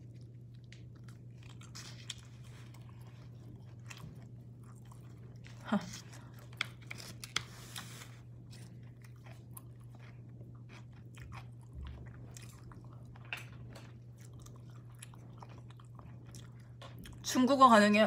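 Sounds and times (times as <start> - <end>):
person chewing food: 0.0 - 17.2
low electrical hum: 0.0 - 18.0.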